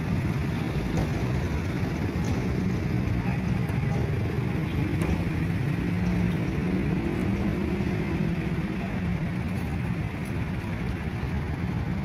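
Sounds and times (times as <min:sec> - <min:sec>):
busy road traffic: 0:00.0 - 0:12.0
motorcycles running: 0:00.0 - 0:12.0.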